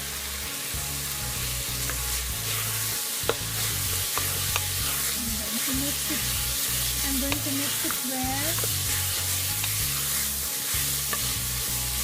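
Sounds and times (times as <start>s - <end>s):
onions sizzling in oil: 0.0s - 12.0s
utensil tapping pan: 0.7s - 12.0s.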